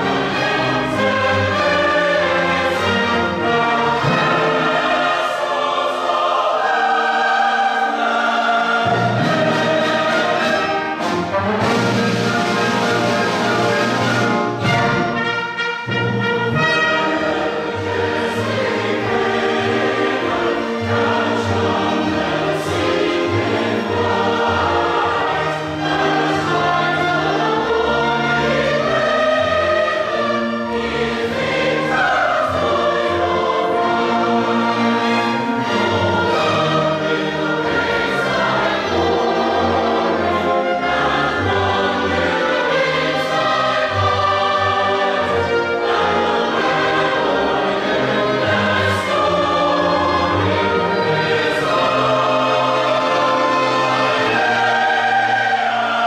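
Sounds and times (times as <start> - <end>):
choir singing: 0.0 - 56.0
orchestra with brass and strings: 0.0 - 56.0.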